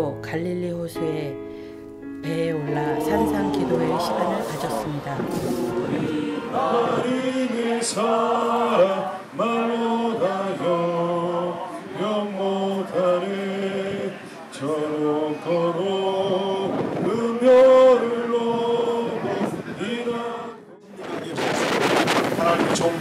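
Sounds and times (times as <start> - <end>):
voices singing a slow hymn: 2.3 - 22.7.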